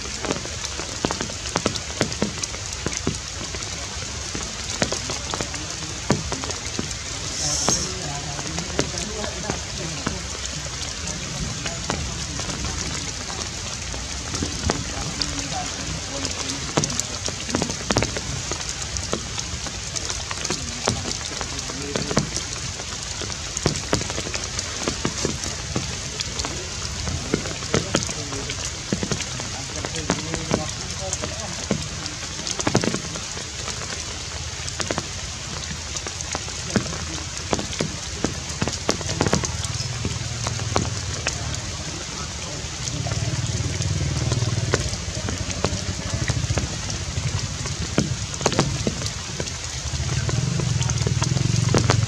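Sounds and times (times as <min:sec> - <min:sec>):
heavy raindrops tapping: 0:00.0 - 0:52.0
sharp drips: 0:00.0 - 0:52.0
steady rain falling: 0:00.0 - 0:52.0.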